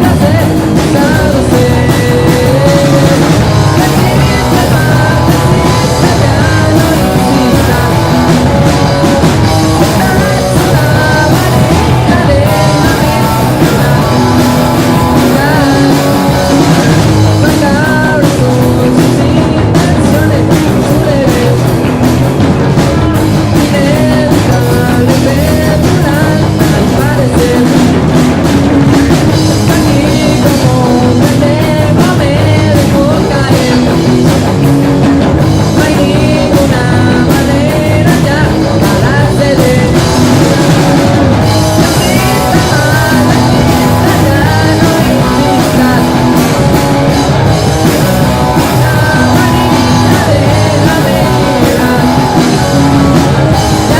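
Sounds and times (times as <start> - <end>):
bass guitar: 0.0 - 53.9
drum kit: 0.0 - 53.9
electric guitars: 0.0 - 53.9.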